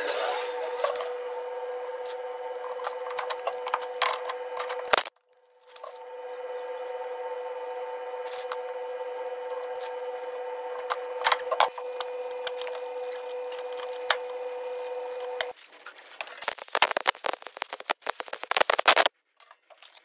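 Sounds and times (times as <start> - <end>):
machine hum: 0.0 - 19.1.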